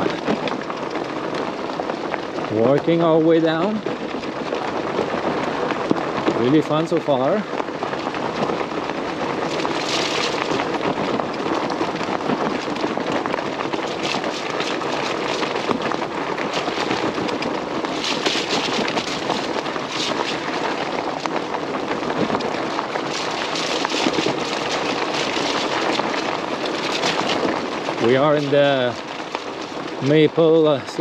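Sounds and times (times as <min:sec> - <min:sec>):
bike tires rolling on dirt: 0:00.0 - 0:31.0
crackles and snaps from ground: 0:00.0 - 0:31.0.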